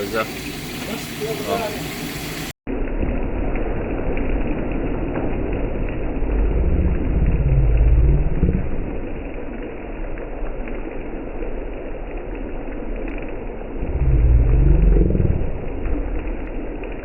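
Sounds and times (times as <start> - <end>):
food sizzling over high flame: 0.0 - 17.0
deep rumble: 2.7 - 17.0.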